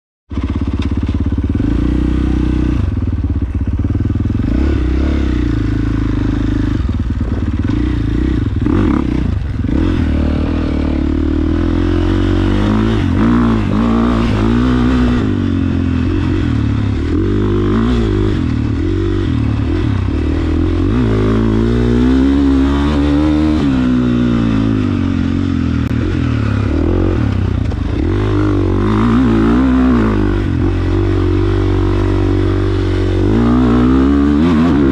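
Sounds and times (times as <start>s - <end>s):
motocross bike engine revving: 0.3s - 34.9s.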